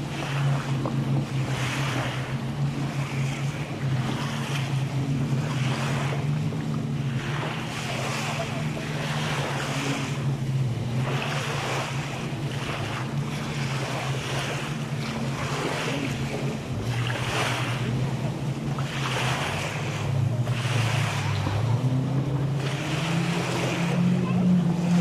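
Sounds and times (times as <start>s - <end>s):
small waves washing onto sand: 0.0s - 25.0s.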